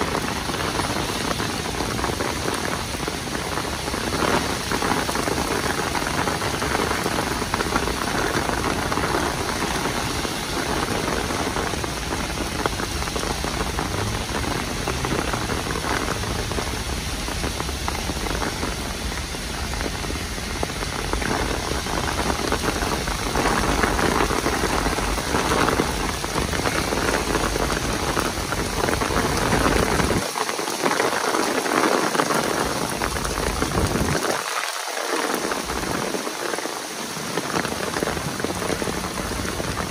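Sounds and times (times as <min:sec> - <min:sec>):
heavy rain hitting the ground: 0:00.0 - 0:39.9.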